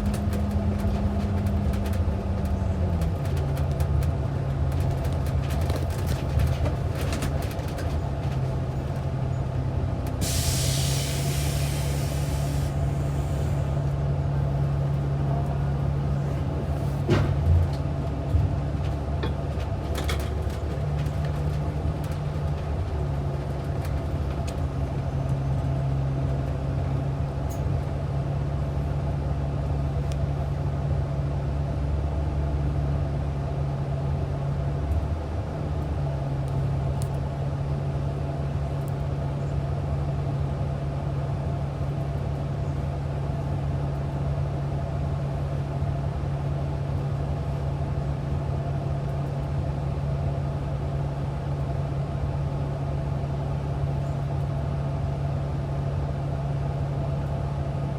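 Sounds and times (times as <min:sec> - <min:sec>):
bus engine humming: 0:00.0 - 0:57.9.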